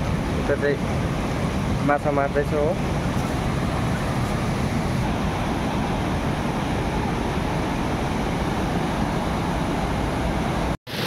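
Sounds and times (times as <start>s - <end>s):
river rapids roaring: 0.0s - 11.0s.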